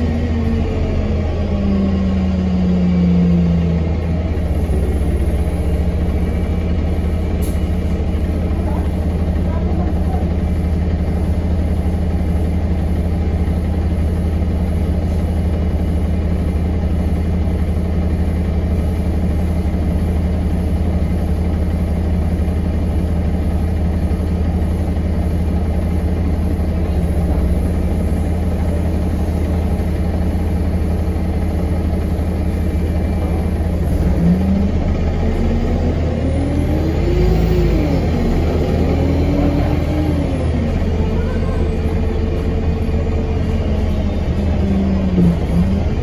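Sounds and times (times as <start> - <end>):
bus diesel engine idling: 0.0 - 46.0.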